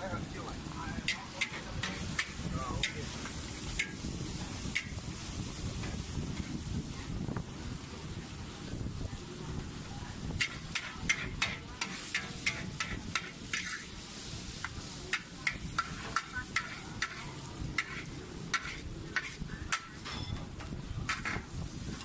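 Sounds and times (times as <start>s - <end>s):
frying sizzle: 0.0s - 22.0s
metal spatula scraping a wok: 1.0s - 7.1s, 10.3s - 22.0s.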